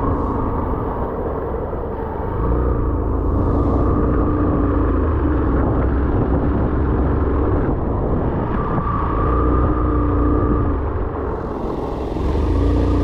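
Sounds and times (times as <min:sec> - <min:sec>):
vehicle rumbling on road: 0:00.0 - 0:13.0.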